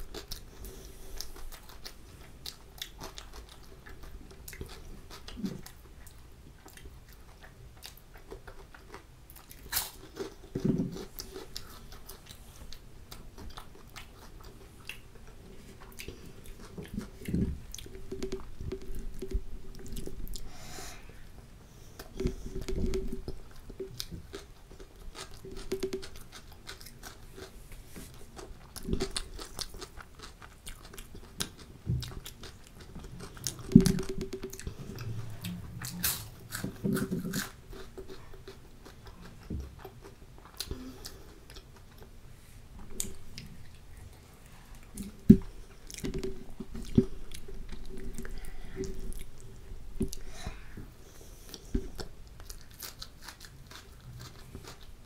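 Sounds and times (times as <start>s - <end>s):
wet chewing: 0.0s - 20.5s, 22.0s - 42.2s, 42.8s - 55.0s.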